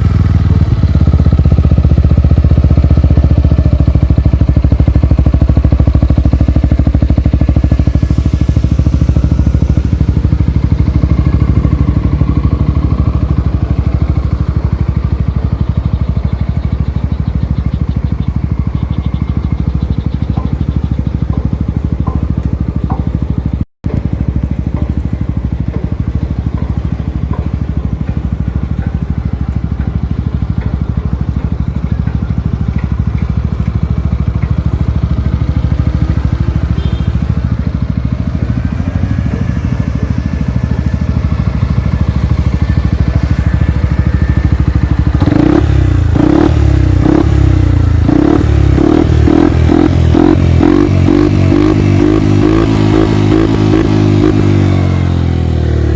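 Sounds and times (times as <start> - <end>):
scooter engine idling: 0.0 - 55.9.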